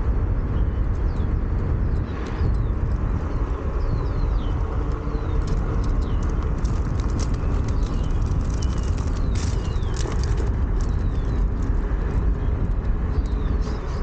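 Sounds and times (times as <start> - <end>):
board rolling on pavement: 0.0 - 14.0
faint motor whine: 0.0 - 14.0
small birds chirping: 0.0 - 14.0
wind on microphone: 0.0 - 14.0.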